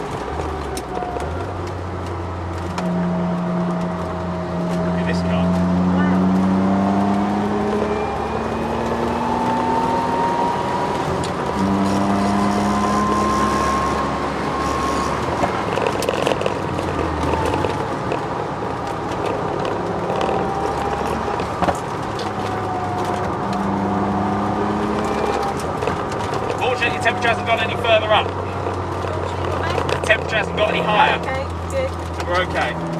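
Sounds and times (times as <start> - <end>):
car engine at speed: 0.0 - 32.9
drivetrain whine: 0.0 - 32.9.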